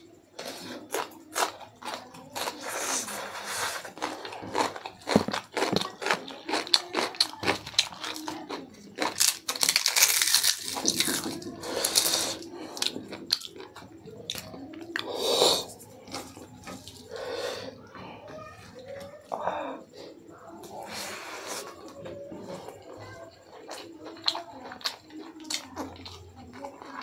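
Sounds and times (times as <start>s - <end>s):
chewing: 0.3s - 27.0s.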